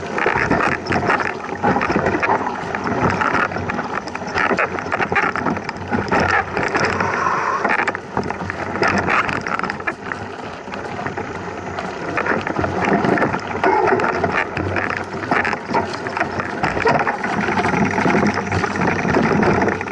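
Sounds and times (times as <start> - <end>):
bike rattling over bumps: 0.0 - 19.9
bike tyres on dirt trail: 0.0 - 19.9.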